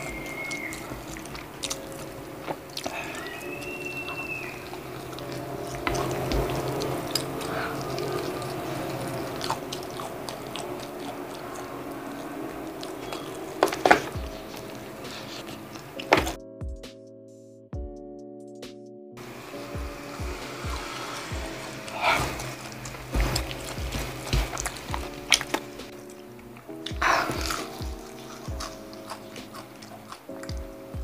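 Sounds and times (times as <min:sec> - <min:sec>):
wet chewing and mouth smacks: 0:00.0 - 0:16.4, 0:21.8 - 0:31.0
soft background music: 0:00.0 - 0:31.0.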